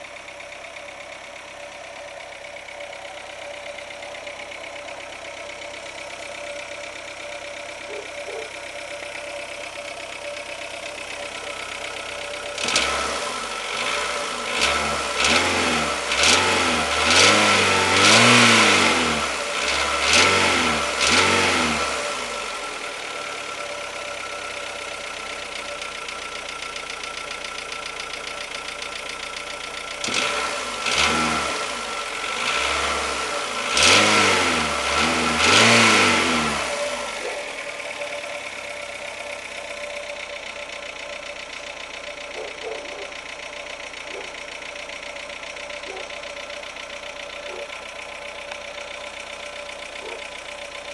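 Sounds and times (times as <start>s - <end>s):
engine knock: 0.0s - 34.2s, 35.6s - 50.9s
car engine idling and revving: 0.0s - 50.9s.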